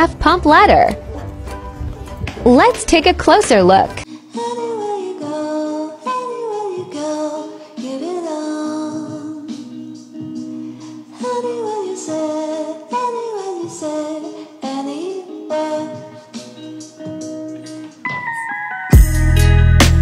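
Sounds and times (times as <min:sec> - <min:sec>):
background music with singing: 0:00.0 - 0:20.0.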